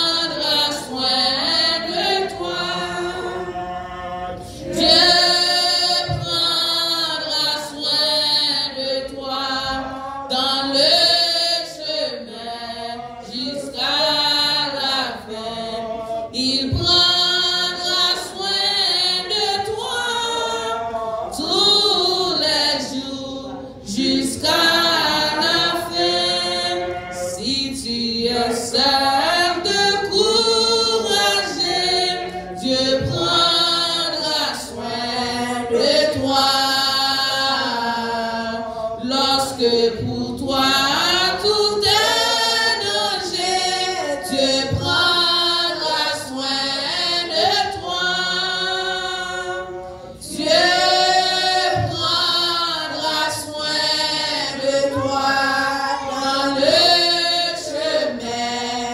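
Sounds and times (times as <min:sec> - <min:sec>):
voices singing together: 0:00.0 - 0:58.9
woman singing a hymn: 0:00.0 - 0:58.9.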